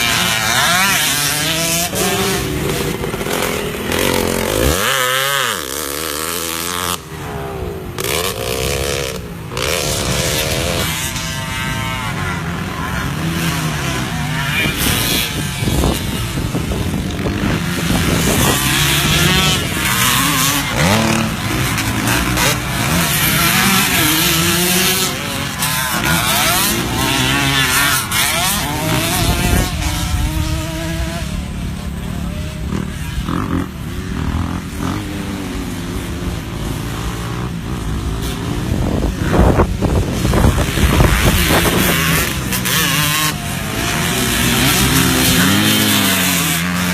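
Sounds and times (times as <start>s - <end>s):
motocross bikes revving: 0.0s - 46.9s.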